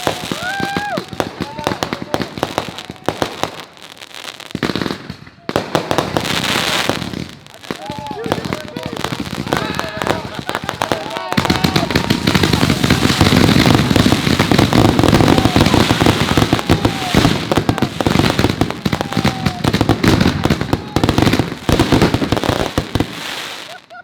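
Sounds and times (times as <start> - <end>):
fireworks exploding: 0.0 - 24.0.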